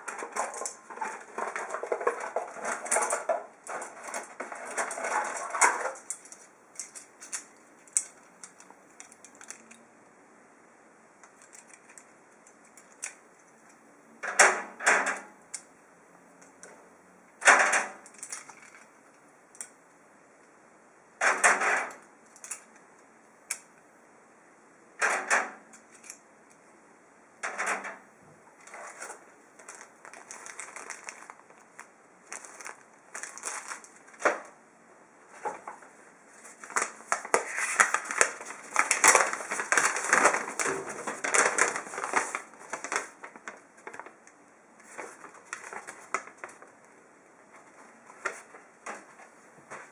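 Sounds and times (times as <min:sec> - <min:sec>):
clicking and rustling of packaging: 0:00.0 - 0:09.8, 0:11.2 - 0:15.7, 0:17.4 - 0:19.8, 0:21.2 - 0:23.7, 0:25.0 - 0:26.6, 0:27.4 - 0:28.0, 0:28.6 - 0:34.6, 0:35.3 - 0:49.9.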